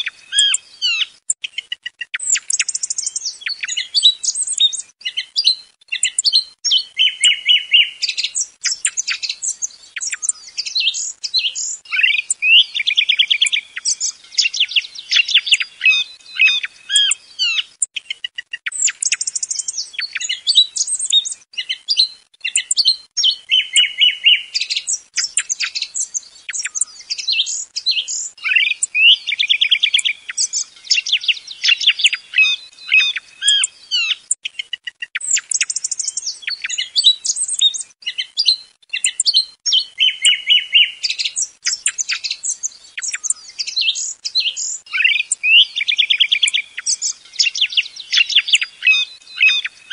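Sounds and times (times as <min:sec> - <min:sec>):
song thrush singing: 0:00.0 - 0:49.9.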